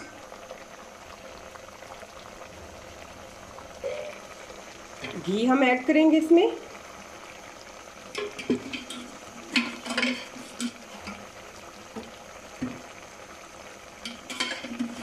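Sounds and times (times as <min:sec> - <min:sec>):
food simmering in a pot: 0:00.0 - 0:15.0.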